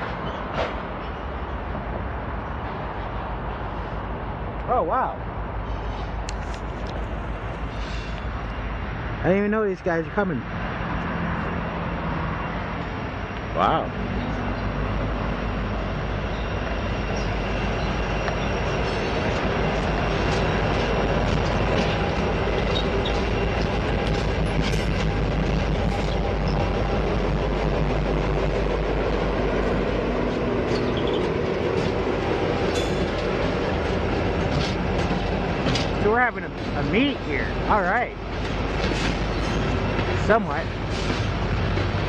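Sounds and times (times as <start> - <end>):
diesel locomotive engines droning: 0.0 - 42.0
wheels rumbling on rail: 0.0 - 42.0.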